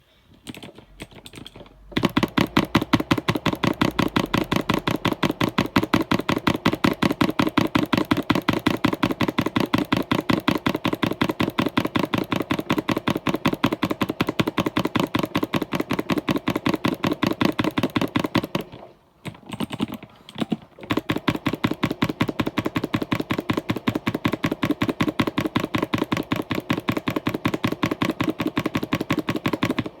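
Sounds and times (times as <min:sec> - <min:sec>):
computer keyboard typing: 0:00.4 - 0:30.0.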